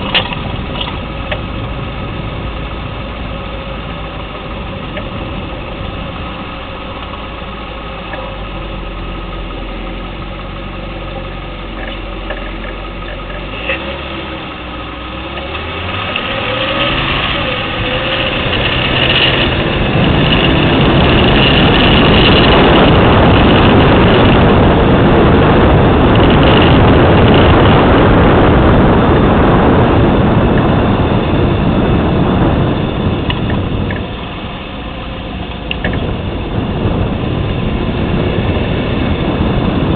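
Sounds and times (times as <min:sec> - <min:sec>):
car engine idling: 0:00.0 - 0:39.9
loud steady rushing noise: 0:00.0 - 0:39.9.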